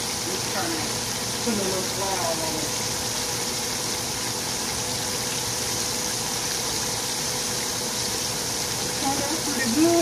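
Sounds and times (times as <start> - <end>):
pork chops sizzling in oil: 0.0 - 10.0.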